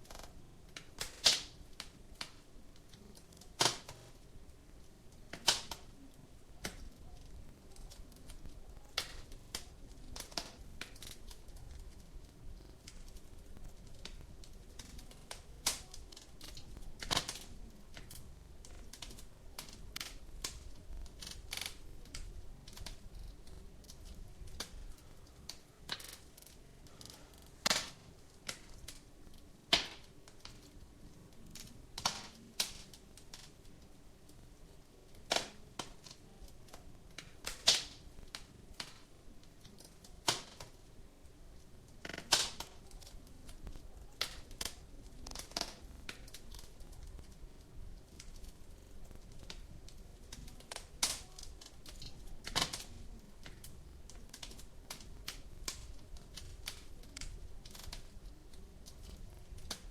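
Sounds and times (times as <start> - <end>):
sharp pops of burning wood: 0.0 - 59.9
wood fire crackling: 0.0 - 59.9.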